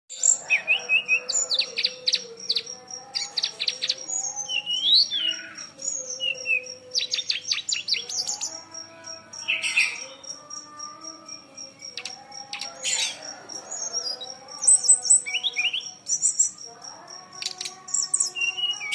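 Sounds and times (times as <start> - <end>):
songbird singing: 0.1 - 18.9.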